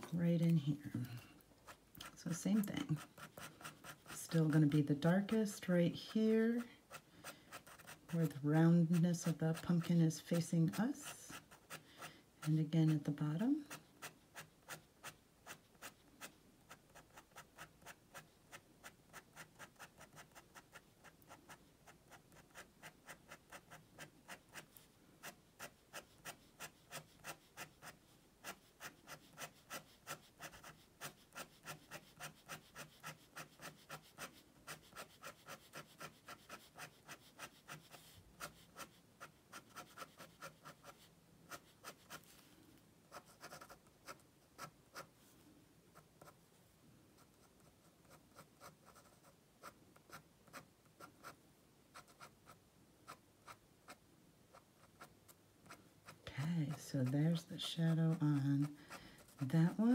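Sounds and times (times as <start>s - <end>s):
pen scratching on paper: 0.0s - 11.8s, 12.4s - 42.4s, 43.1s - 45.1s, 47.2s - 59.9s.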